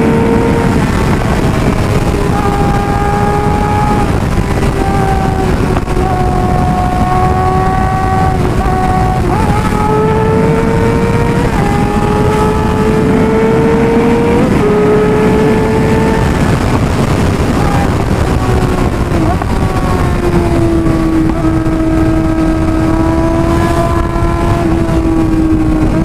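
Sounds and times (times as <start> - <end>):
motorcycle engine at speed: 0.0 - 26.0
wind rumble on microphone: 0.0 - 26.0.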